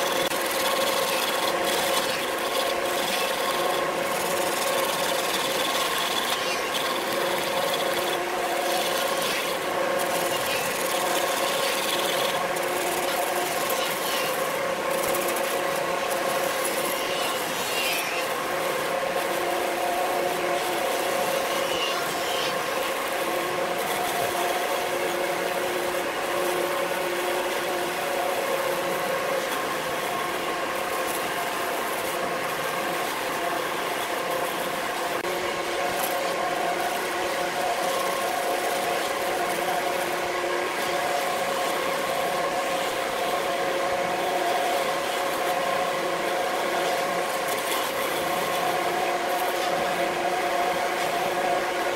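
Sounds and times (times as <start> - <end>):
wood lathe whining: 0.0 - 51.9.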